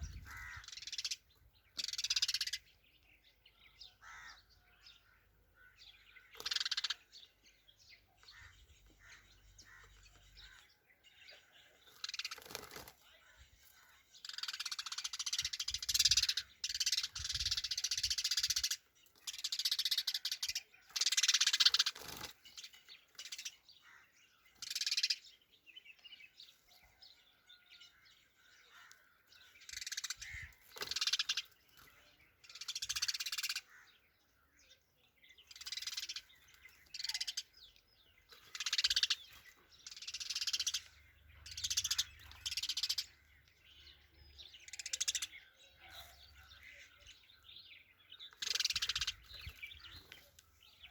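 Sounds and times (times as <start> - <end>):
sparrow chirping: 0.0 - 50.9.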